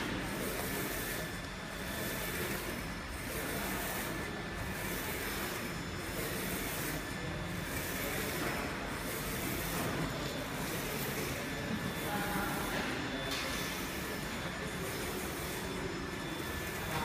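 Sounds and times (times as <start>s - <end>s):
printer carriage whirring: 0.0s - 17.0s.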